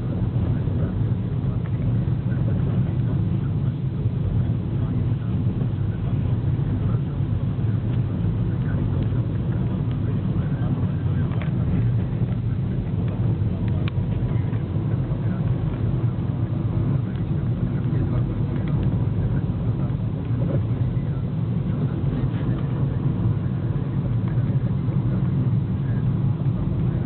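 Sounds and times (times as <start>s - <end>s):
car engine and tyre drone: 0.0s - 27.0s.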